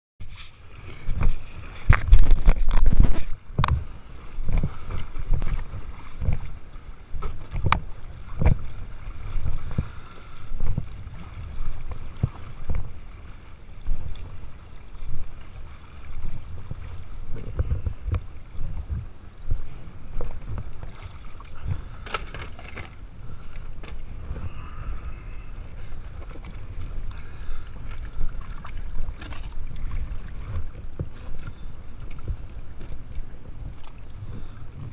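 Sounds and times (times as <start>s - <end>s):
water sloshing and slapping: 0.2s - 34.9s
wind on microphone: 0.2s - 34.9s.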